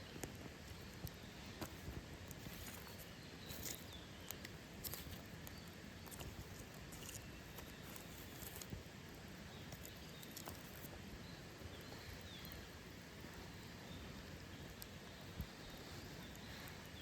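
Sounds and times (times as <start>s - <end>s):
low steady fire hiss: 0.0s - 17.0s.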